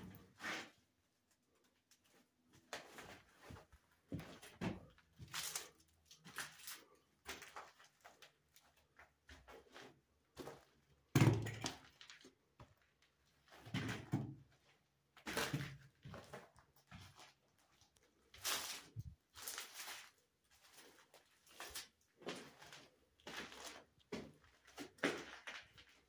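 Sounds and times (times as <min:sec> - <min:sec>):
footsteps on debris: 0:02.5 - 0:10.8, 0:11.4 - 0:26.0.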